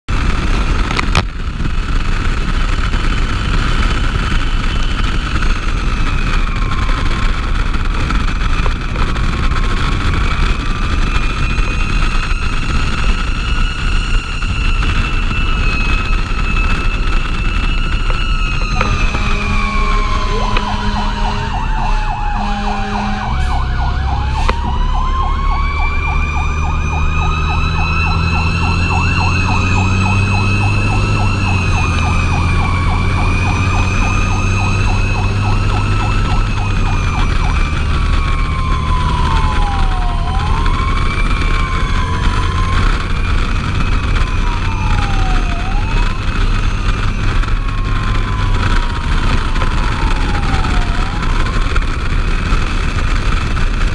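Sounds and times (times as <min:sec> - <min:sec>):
truck engine rumbling: 0:00.0 - 0:53.9
fire engine siren wailing and yelping: 0:00.1 - 0:53.9
higher siren tone: 0:02.8 - 0:52.9.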